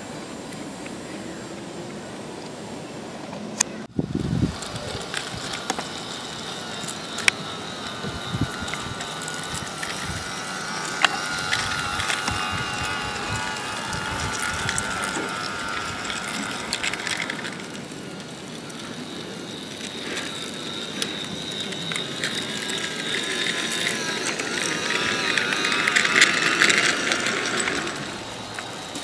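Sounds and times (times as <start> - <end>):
model train gear whine: 0.0 - 29.0
wheels clicking over rails: 0.0 - 29.0.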